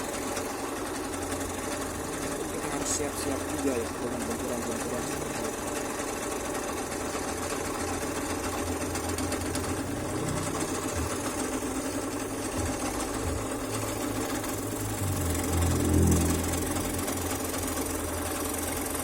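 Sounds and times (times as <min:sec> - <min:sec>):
scroll saw cutting wood: 0:00.0 - 0:19.0.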